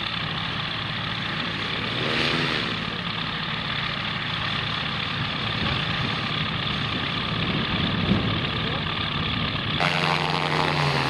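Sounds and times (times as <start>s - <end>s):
aircraft engine idling: 0.0s - 11.0s.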